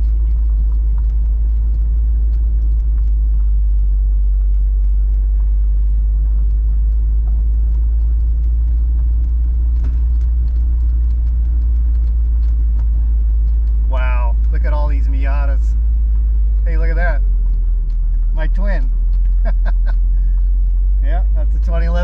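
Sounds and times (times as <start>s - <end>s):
engine and road rumble: 0.0s - 22.0s
faint ticks: 0.0s - 22.0s.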